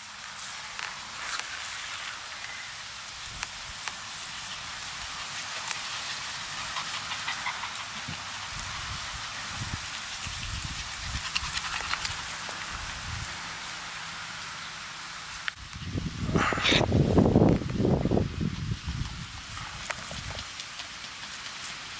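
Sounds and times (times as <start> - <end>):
dogs' paws pattering through grass: 0.0 - 14.7, 16.8 - 21.9
outdoor hiss: 0.0 - 21.9.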